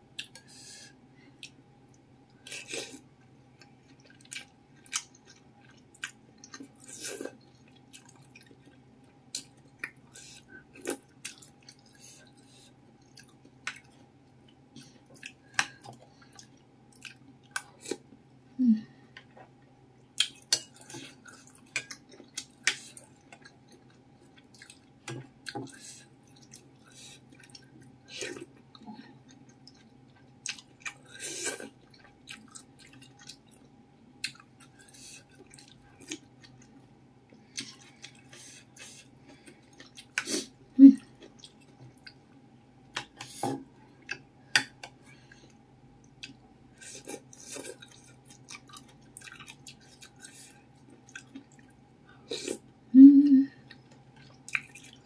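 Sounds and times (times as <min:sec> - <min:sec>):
faint steady hum: 0:00.0 - 0:55.0
chewing and wet mouth noises: 0:01.4 - 0:18.1, 0:19.1 - 0:52.7, 0:53.6 - 0:55.0.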